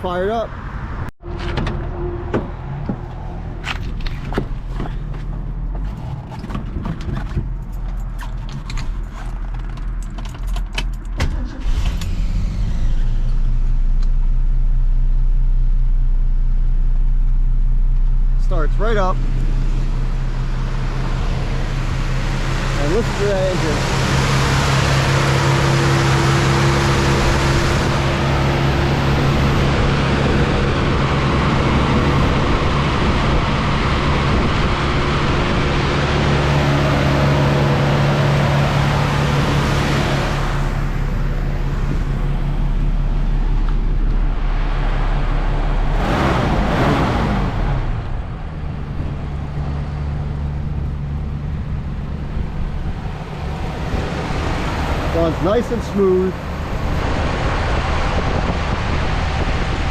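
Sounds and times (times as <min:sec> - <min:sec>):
car engine running: 0:01.2 - 0:59.9.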